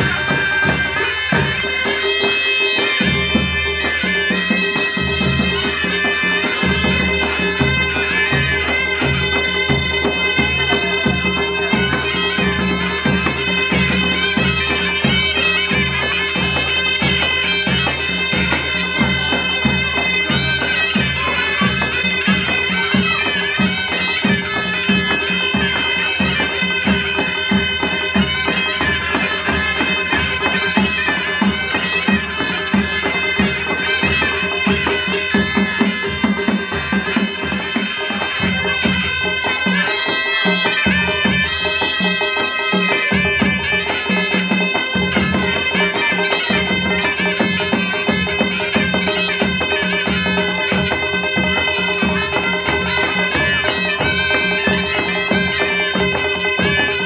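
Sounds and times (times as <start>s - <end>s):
double-headed drum beating: 0.0s - 57.0s
trumpets playing reedy melody: 0.0s - 57.0s.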